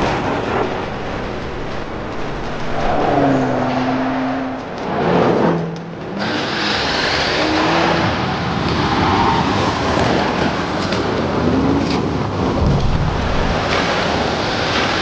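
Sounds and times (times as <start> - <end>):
car engine under load: 0.0 - 9.1, 9.7 - 15.0.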